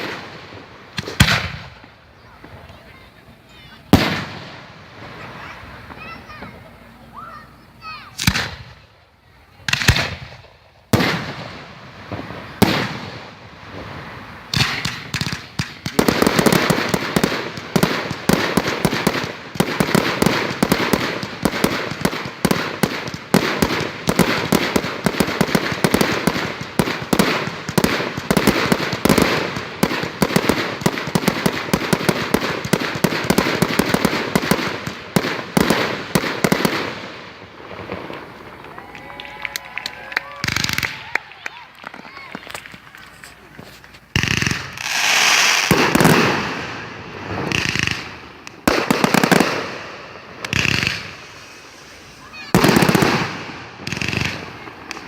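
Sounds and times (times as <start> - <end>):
fireworks exploding: 0.0 - 55.0.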